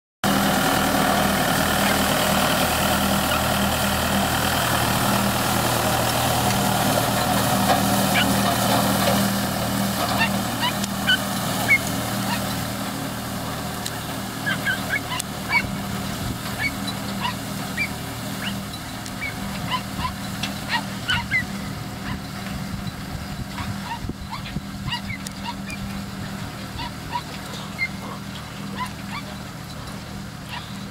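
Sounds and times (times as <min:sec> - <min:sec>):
tractor diesel engine running: 0:00.2 - 0:30.9.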